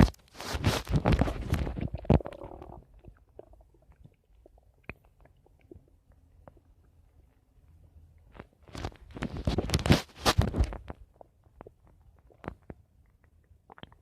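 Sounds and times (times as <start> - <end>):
stomach gurgling: 0.0 - 7.6, 8.3 - 14.0.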